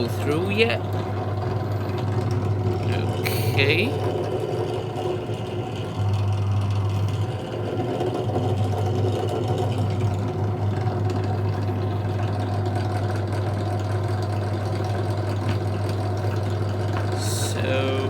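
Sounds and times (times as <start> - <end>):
drill press motor humming: 0.0 - 18.0.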